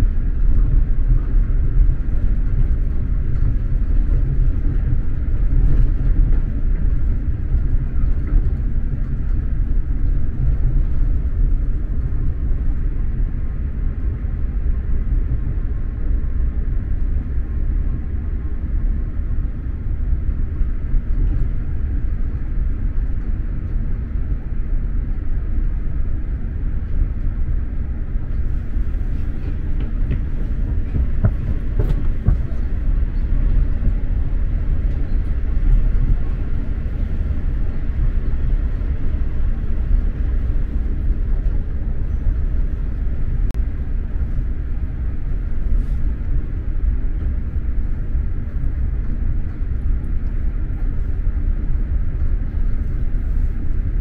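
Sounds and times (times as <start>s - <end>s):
train interior low rumble: 0.0s - 54.0s.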